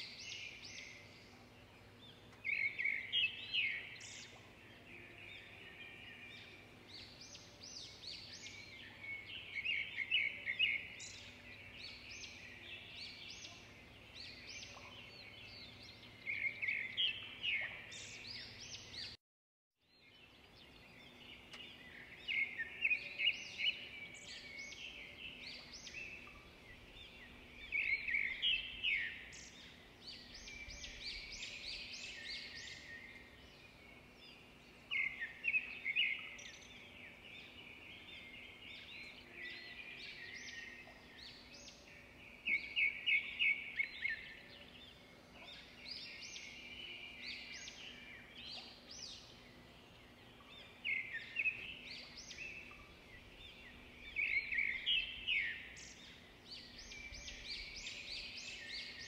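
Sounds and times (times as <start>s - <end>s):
birds chirping: 0.0s - 19.2s, 20.0s - 59.0s.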